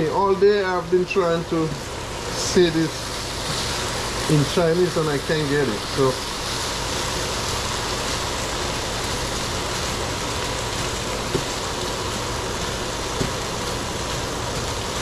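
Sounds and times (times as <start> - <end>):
kitchen exhaust fan rushing: 0.0 - 15.0.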